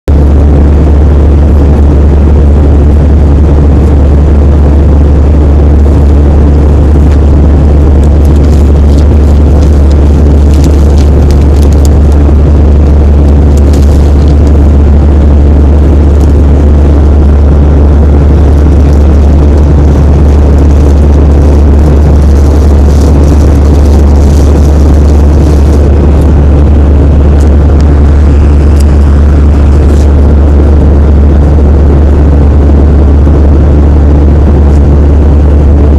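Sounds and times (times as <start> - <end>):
airplane engine drone: 0.1 - 35.9.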